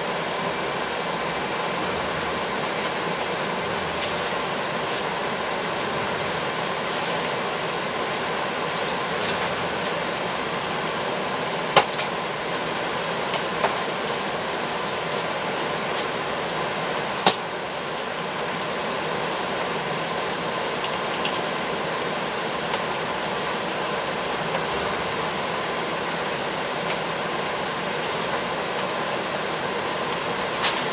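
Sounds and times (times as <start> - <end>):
fan-like background noise: 0.0 - 30.9.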